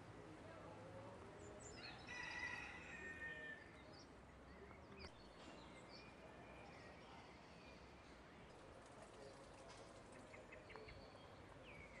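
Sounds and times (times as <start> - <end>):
outdoor background noise: 0.0 - 12.0
faint birdsong chirps: 0.6 - 12.0.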